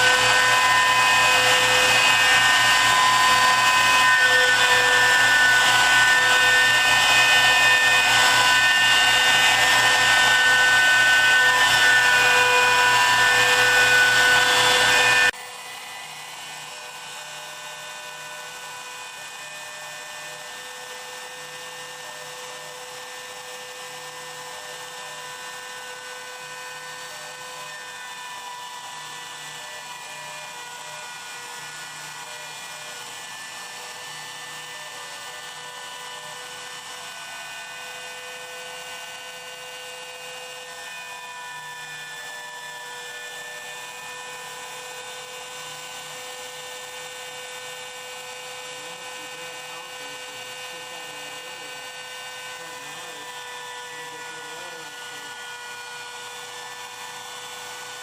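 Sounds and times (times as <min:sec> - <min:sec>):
cnc machine whining: 0:00.0 - 0:58.0.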